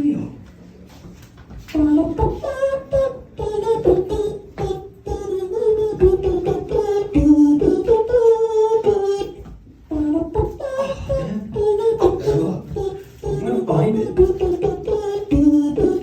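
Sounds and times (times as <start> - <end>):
layered wordless voices: 0.0 - 16.0
beatboxed percussion: 1.6 - 16.0.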